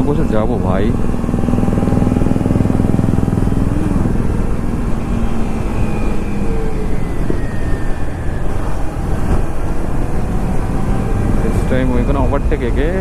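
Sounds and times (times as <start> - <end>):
motorcycle engine running: 0.0 - 6.7, 8.8 - 13.0
wind rumble on microphone: 0.0 - 13.0.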